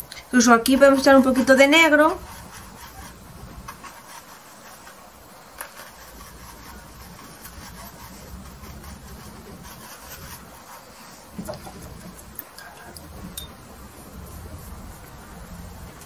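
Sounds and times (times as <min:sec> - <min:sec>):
low steady hum: 0:00.0 - 0:16.0
paintbrush scrubbing on canvas: 0:00.4 - 0:12.8, 0:13.8 - 0:15.9.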